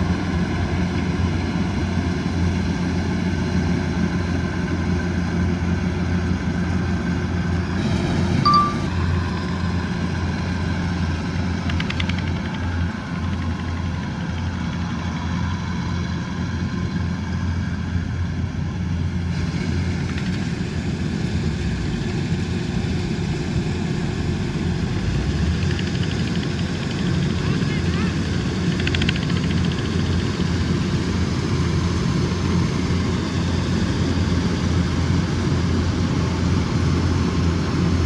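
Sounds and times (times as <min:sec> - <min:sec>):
diesel engine running: 0:00.0 - 0:38.0
machinery noise: 0:00.0 - 0:38.0.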